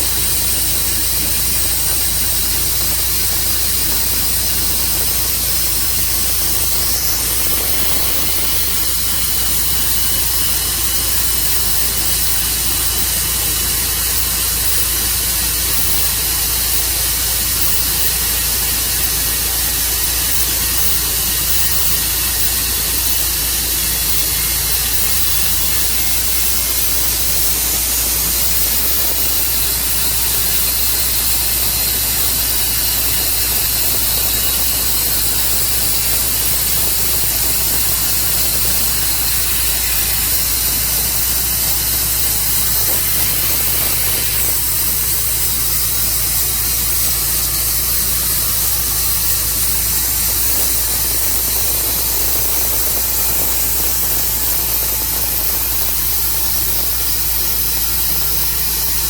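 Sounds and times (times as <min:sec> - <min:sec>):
loud even hiss: 0:00.0 - 0:59.0
sawmill engine drone: 0:00.0 - 0:59.0.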